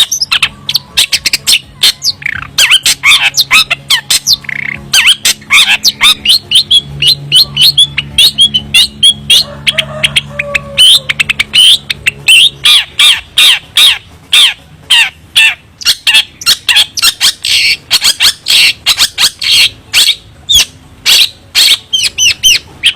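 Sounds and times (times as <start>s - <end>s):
shrike calling harsh notes: 0.0s - 22.9s.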